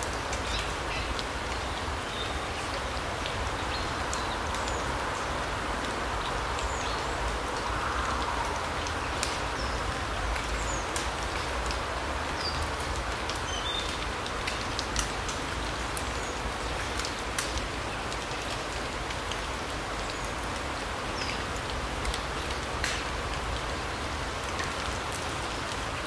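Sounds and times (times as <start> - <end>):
steady forest hiss: 0.0 - 26.0.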